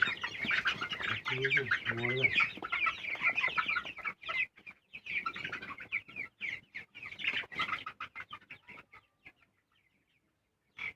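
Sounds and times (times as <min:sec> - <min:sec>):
chickens chirping and clucking: 0:00.0 - 0:10.9.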